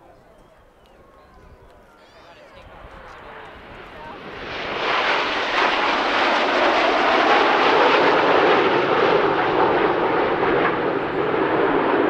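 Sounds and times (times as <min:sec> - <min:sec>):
jet roar: 0:01.0 - 0:12.0.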